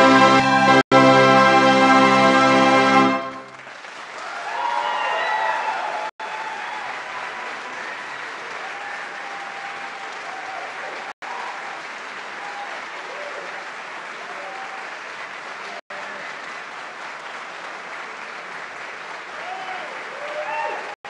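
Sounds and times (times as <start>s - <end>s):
audience applauding: 3.0s - 21.0s.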